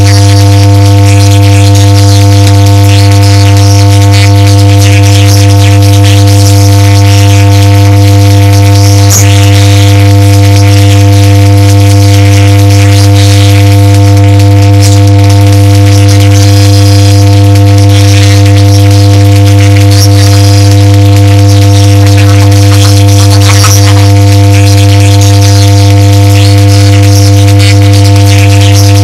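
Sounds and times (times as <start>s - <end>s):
loud electrical buzz: 0.0s - 29.0s.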